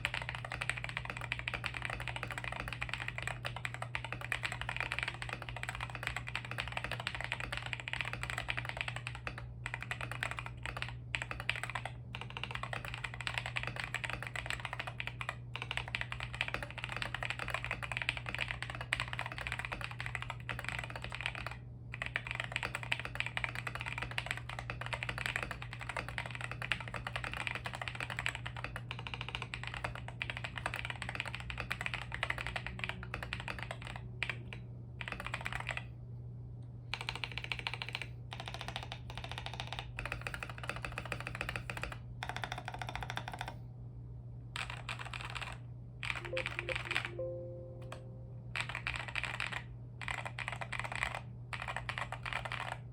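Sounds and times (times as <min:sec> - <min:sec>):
fast typing on mechanical keyboard: 0:00.0 - 0:35.9, 0:36.9 - 0:43.6, 0:44.5 - 0:47.2, 0:48.6 - 0:52.9.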